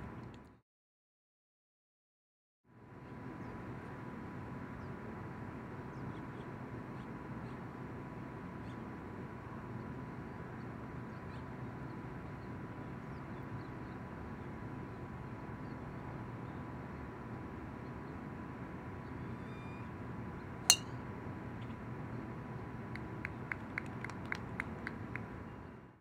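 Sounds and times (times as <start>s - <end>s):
outdoor background noise: 2.7s - 26.0s.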